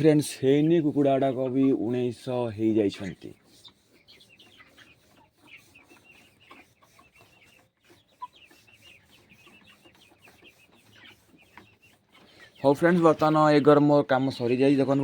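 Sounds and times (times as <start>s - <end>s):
chickens clucking and peeping: 0.0s - 15.0s.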